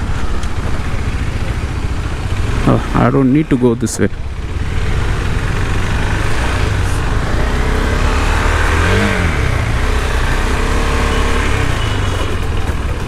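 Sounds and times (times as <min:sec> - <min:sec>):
motorcycle engine running and revving: 0:00.0 - 0:13.0.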